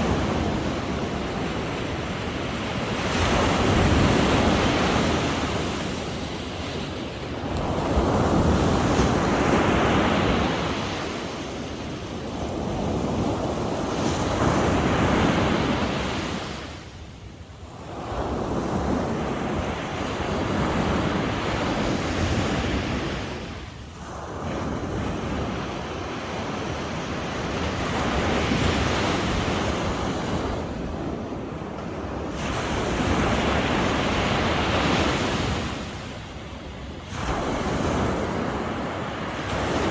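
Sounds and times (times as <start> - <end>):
sea waves breaking on shore: 0.0 - 17.0, 17.7 - 39.9.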